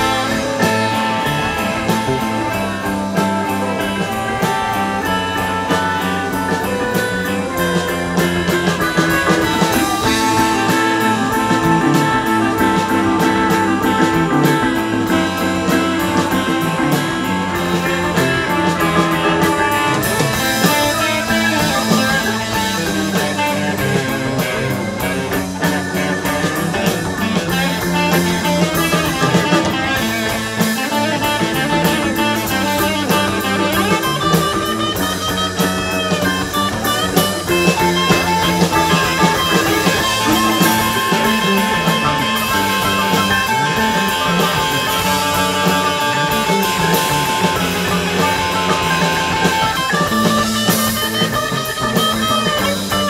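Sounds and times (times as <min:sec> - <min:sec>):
drum kit: 0:00.0 - 0:53.0
guitars: 0:00.0 - 0:53.0
rock band playing: 0:00.0 - 0:53.0.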